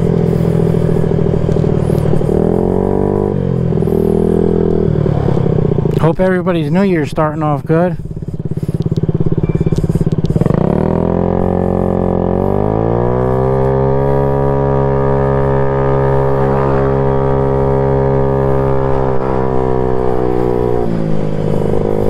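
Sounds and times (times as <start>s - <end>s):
scooter engine droning: 0.0s - 22.0s.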